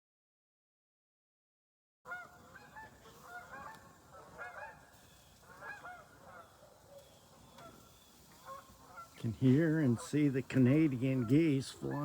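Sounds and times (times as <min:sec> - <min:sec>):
geese honking overhead: 0:02.1 - 0:12.0.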